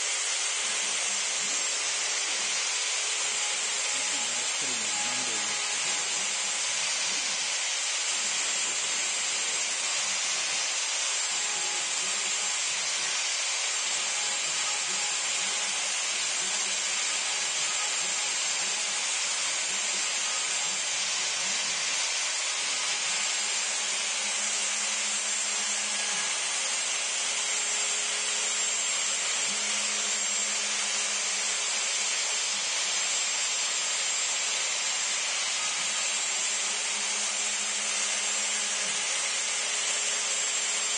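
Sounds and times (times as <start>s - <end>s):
router whine cutting wood: 0.0s - 40.9s.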